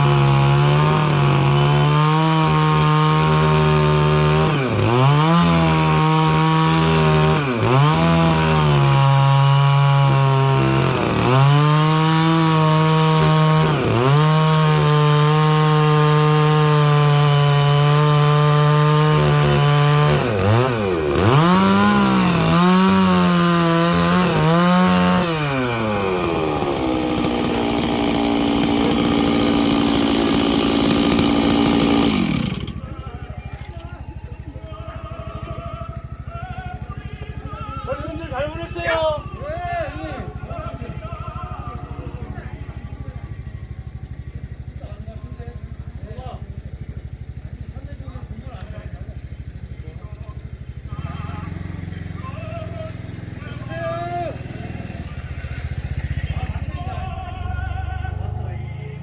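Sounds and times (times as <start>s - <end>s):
chainsaw cutting wood: 0.0s - 34.4s, 35.0s - 43.0s, 46.4s - 47.6s, 48.6s - 59.0s.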